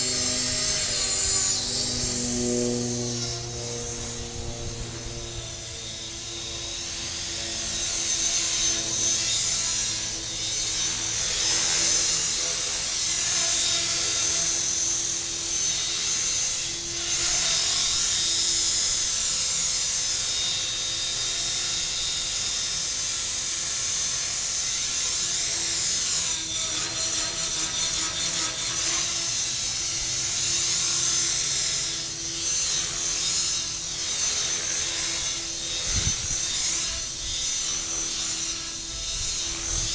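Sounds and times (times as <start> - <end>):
rc helicopter motor whine: 0.0 - 39.9
rotor blades whirring: 0.0 - 39.9.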